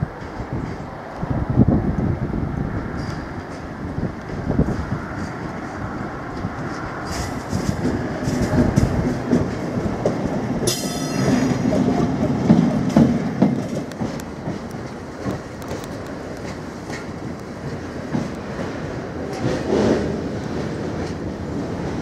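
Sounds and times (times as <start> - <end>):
wheels clicking over rail joints: 3.0 - 22.0.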